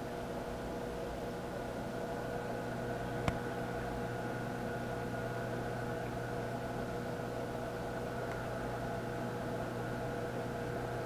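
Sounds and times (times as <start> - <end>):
low mechanical hum with hiss: 0.0 - 11.0.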